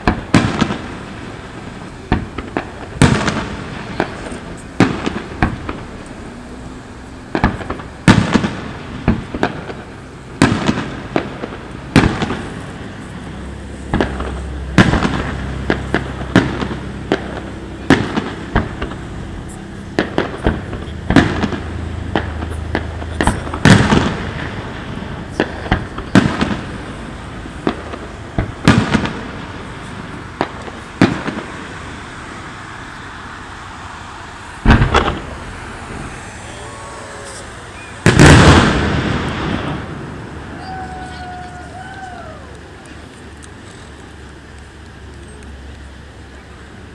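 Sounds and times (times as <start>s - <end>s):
crackling firework clusters: 0.0s - 46.9s
fireworks bursting: 0.0s - 46.9s.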